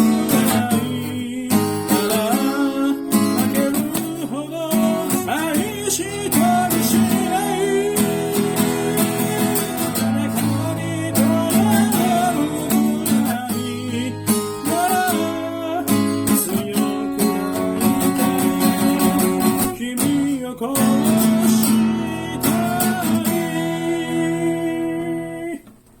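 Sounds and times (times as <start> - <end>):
person singing: 0.0 - 25.8
acoustic guitar music: 0.0 - 26.0.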